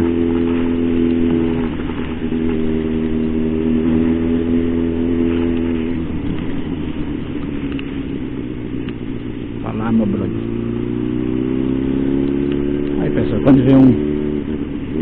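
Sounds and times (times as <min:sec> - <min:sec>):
motorcycle engine running: 0:00.0 - 0:15.0
wind: 0:00.0 - 0:15.0.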